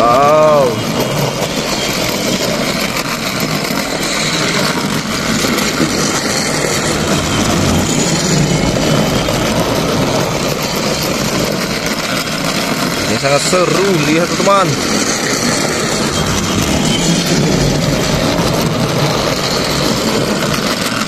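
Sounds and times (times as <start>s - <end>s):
toy train motor whirring: 0.0s - 21.0s.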